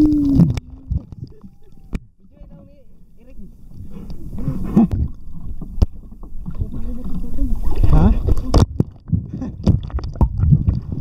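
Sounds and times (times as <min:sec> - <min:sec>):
muffled underwater gurgling: 0:00.0 - 0:11.0
sea water sloshing and splashing: 0:00.0 - 0:11.0.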